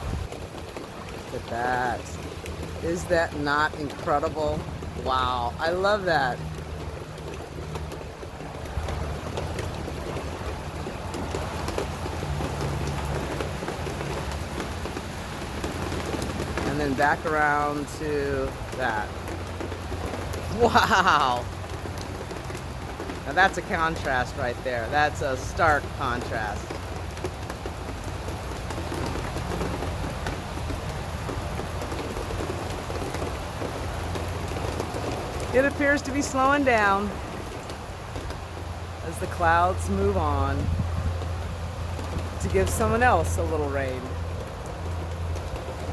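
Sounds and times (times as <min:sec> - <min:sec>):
rain drops pattering: 0:00.0 - 0:45.9.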